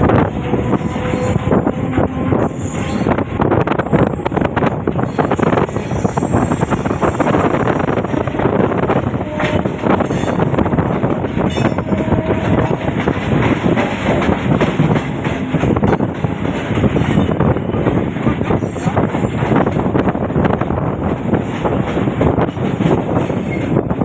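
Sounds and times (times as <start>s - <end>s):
train wheels clattering over rails: 0.0s - 24.0s.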